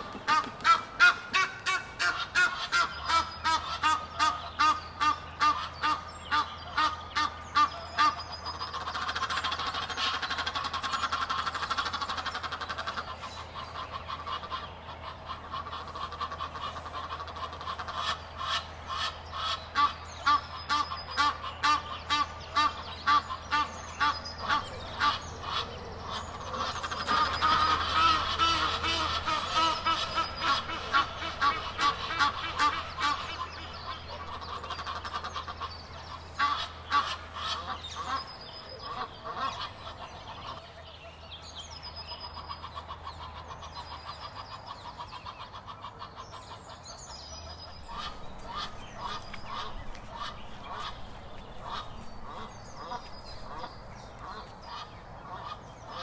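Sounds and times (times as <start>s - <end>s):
geese honking: 0.0s - 41.2s, 42.1s - 56.0s.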